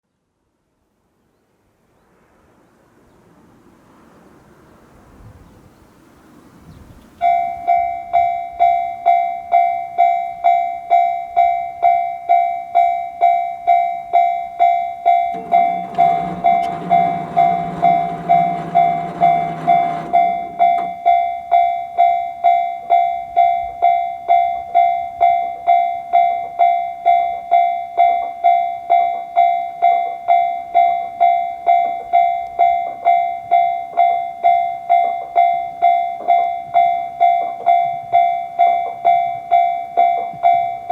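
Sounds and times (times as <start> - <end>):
level crossing warning bell: 7.2 - 40.9.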